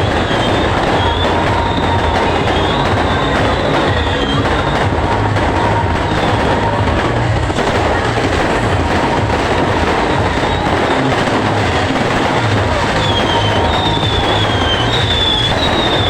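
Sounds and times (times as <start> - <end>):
fireworks crackling and popping: 0.0 - 16.0
low firework thuds: 0.0 - 16.0.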